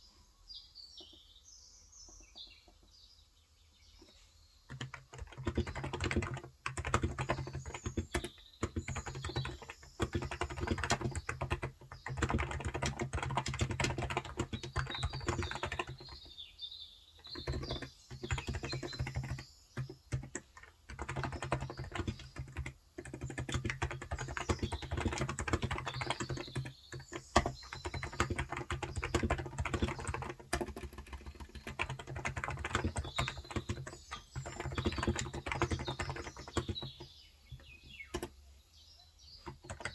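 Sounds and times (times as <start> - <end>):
faint birds chirping: 0.0 - 39.9
keyboard typing: 4.7 - 16.3, 17.3 - 38.4, 39.4 - 39.9.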